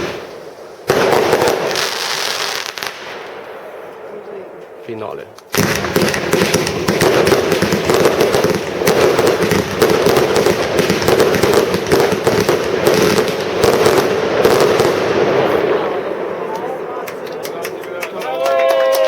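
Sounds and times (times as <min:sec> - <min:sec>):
firework barrage: 0:00.0 - 0:19.0.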